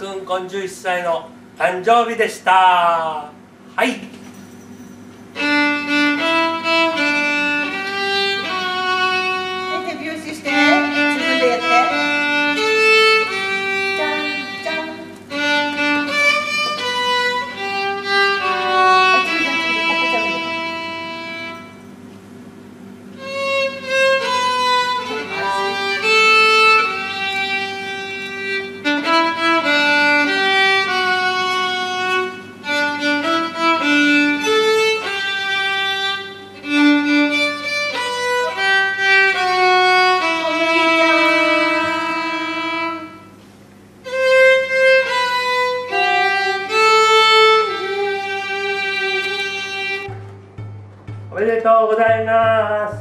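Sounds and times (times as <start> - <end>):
solo violin melody: 5.4 - 21.9, 23.1 - 43.4, 44.0 - 50.4.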